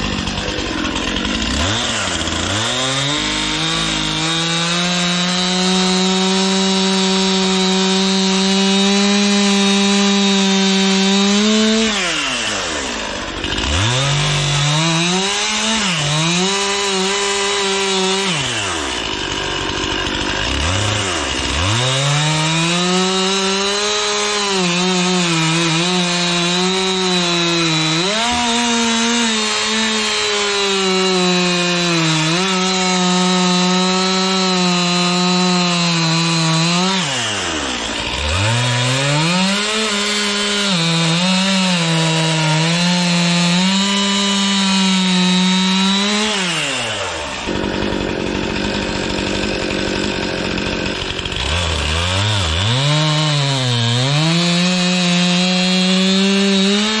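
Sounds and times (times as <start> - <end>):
chainsaw cutting logs: 0.0 - 57.0
chainsaw idling and revving: 0.0 - 57.0.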